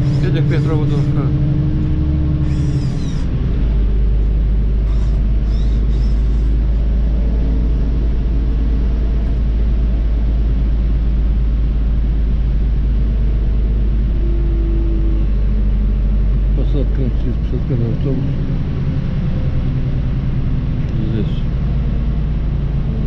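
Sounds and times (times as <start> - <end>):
bus rumbling inside cabin: 0.0 - 23.0.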